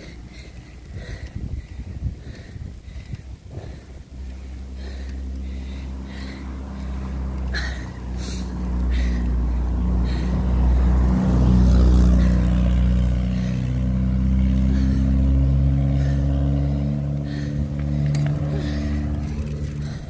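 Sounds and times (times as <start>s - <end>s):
engine running steadily: 0.0s - 20.0s
wind rumble on microphone: 0.0s - 20.0s.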